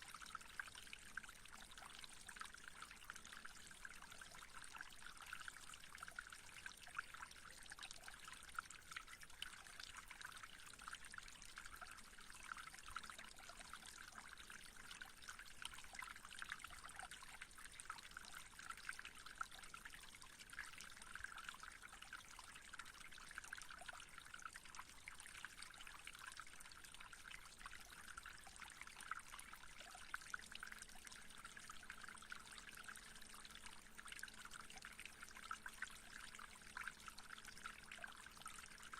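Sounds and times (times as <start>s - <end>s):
faint trickling water: 0.0s - 38.9s.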